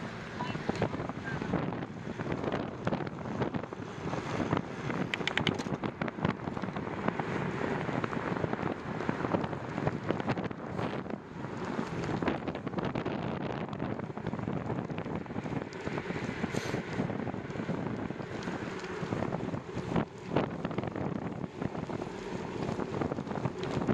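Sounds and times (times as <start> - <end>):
wind buffeting microphone: 0.0 - 23.9
bicycle clicks: 2.3 - 23.9.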